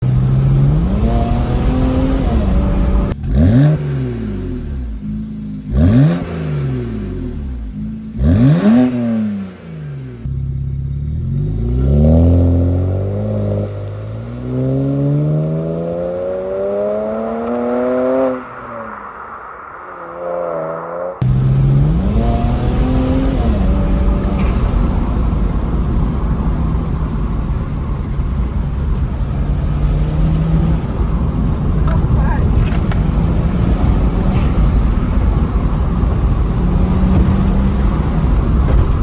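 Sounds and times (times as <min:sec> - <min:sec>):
car engine revving hard: 0:00.0 - 0:18.7, 0:21.2 - 0:39.0.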